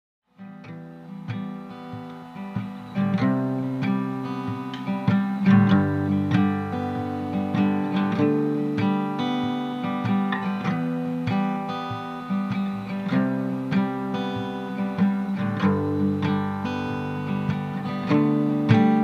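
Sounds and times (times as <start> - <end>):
acoustic guitar strumming: 0.3 - 19.0.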